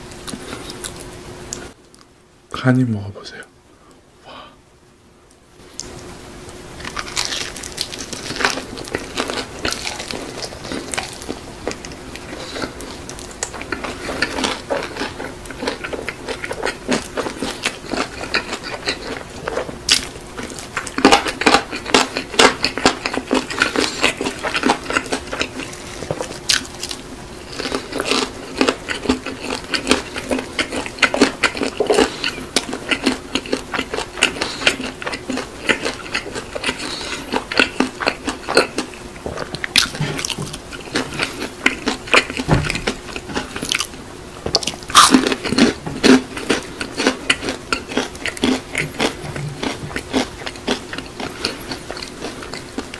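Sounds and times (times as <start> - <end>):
crunchy chewing of fried chicken: 0.0 - 2.1, 5.6 - 52.9.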